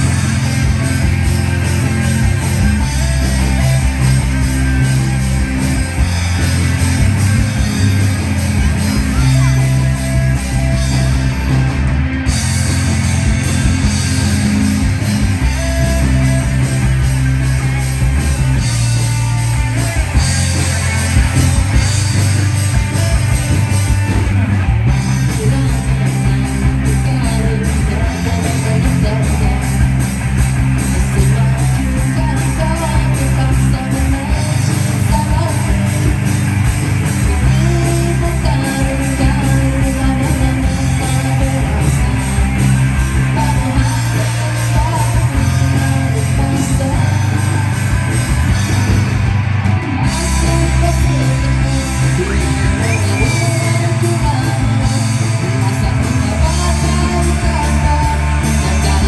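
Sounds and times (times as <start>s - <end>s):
bass guitar: 0.0s - 59.0s
drums: 0.0s - 59.0s
electric guitars: 0.0s - 59.0s
rock band playing: 0.0s - 59.0s.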